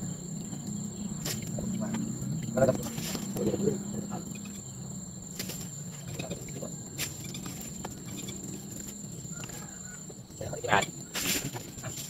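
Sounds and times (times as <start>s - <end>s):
crickets trilling: 0.0s - 12.0s
low steady hum: 0.0s - 12.0s.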